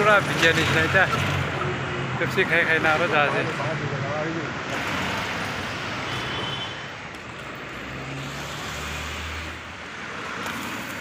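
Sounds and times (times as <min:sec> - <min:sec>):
road noise from passing vehicles: 0:00.0 - 0:11.0.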